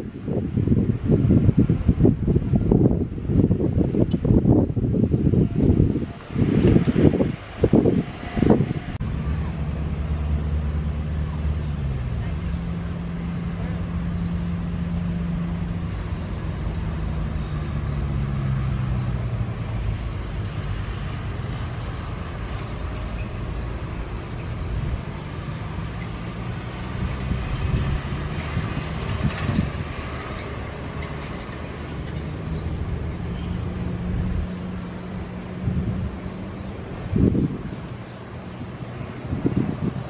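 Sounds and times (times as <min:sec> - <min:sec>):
jet engines rumbling: 0:00.0 - 0:40.0.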